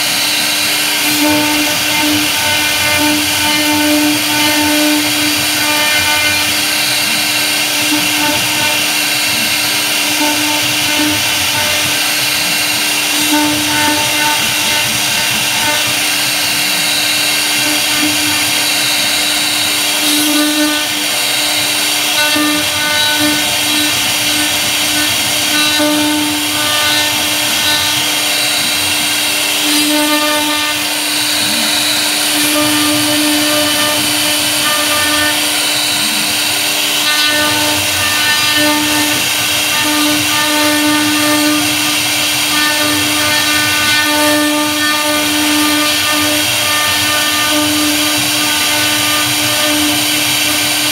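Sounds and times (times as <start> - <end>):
bit cutting wood: 0.0 - 50.9
router spindle whine: 0.0 - 50.9.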